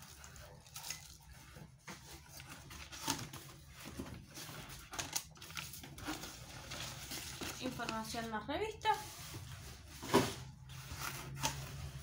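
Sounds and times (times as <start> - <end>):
rummaging in a box: 0.0 - 12.0.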